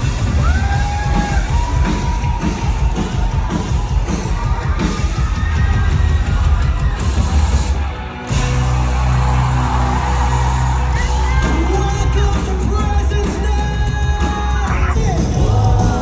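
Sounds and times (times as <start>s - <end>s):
band music with drums and bass: 0.0s - 16.0s
crowd noise: 0.0s - 16.0s.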